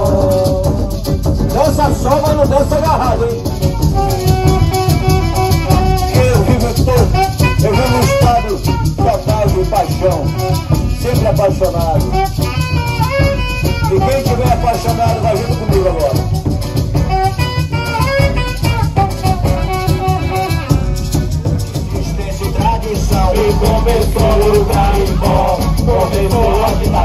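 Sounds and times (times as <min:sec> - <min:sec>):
acoustic guitar: 0:00.0 - 0:27.0
hand drums beating: 0:00.0 - 0:27.0
maracas shaking: 0:00.0 - 0:27.0.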